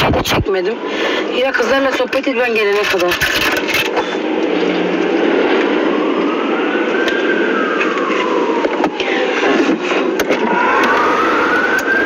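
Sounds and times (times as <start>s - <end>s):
emergency siren wailing: 0.0s - 12.0s
street traffic noise: 0.0s - 12.0s.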